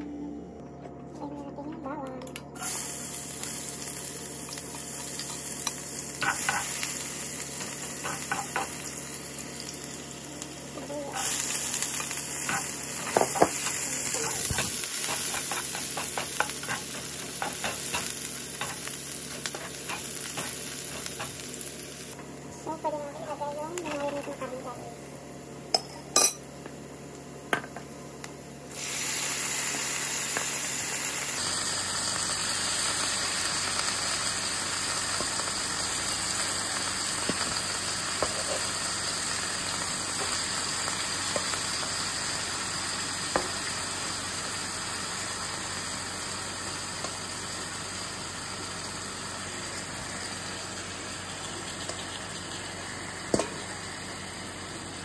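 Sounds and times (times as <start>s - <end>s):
meat sizzling in hot pan: 2.6s - 22.2s, 28.7s - 55.0s
garlic and onion frying in oil: 2.6s - 24.8s, 28.7s - 55.0s.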